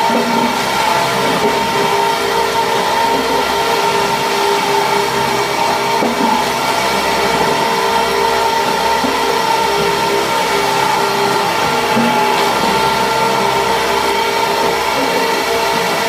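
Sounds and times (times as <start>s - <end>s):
machinery drone with whine: 0.0s - 16.0s.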